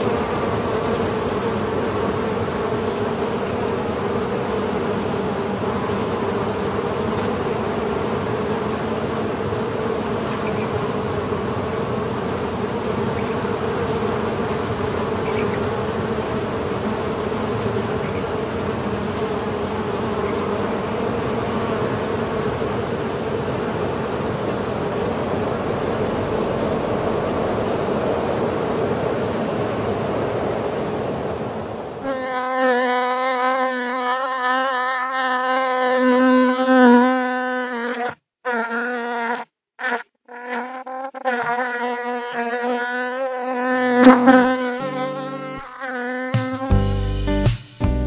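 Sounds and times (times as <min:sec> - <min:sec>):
bees buzzing: 0:00.0 - 0:47.6.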